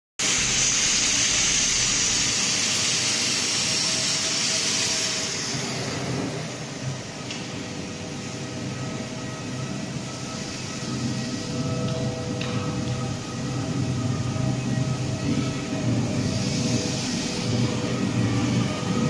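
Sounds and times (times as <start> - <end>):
machinery low hum: 0.2 - 19.0
machinery whirring hiss: 0.2 - 19.0.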